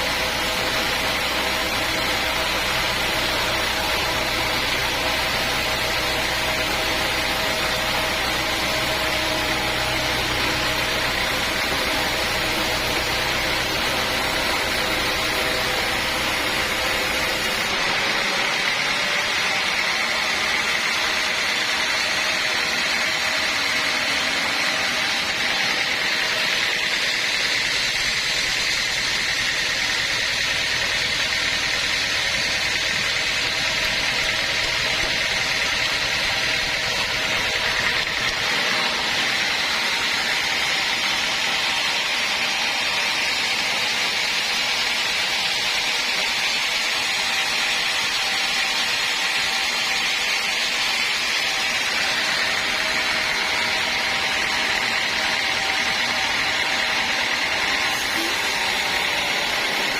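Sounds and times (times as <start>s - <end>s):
high machine whine: 0.0s - 59.9s
sawmill machinery running: 0.0s - 59.9s.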